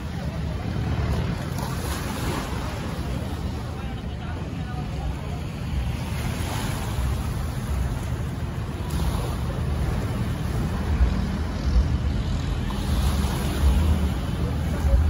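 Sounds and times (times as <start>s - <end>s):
sea washing: 0.0s - 15.0s.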